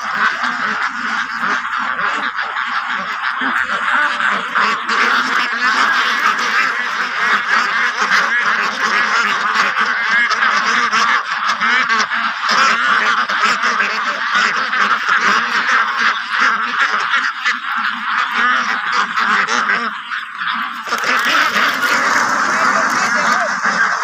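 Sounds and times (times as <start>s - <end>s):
flock of ducks quacking: 0.0s - 24.0s.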